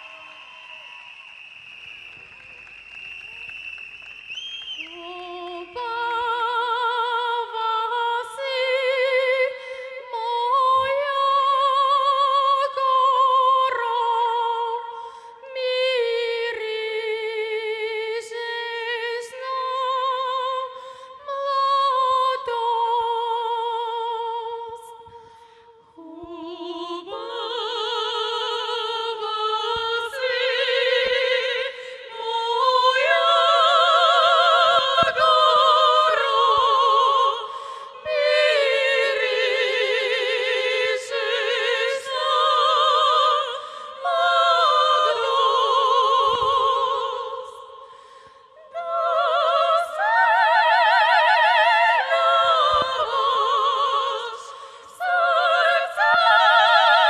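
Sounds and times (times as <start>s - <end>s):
women singing operatic harmony: 4.8s - 25.2s, 25.9s - 57.0s.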